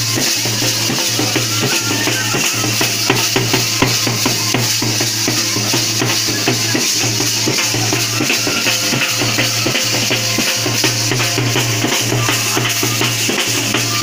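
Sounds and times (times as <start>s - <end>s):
fast drum strikes: 0.0s - 14.0s
rattling shimmer: 0.0s - 14.0s.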